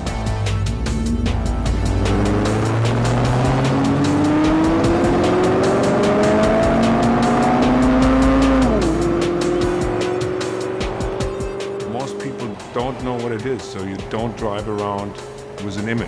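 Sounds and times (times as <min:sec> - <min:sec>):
car engine accelerating: 0:00.0 - 0:16.0
music with regular beat: 0:00.0 - 0:16.0.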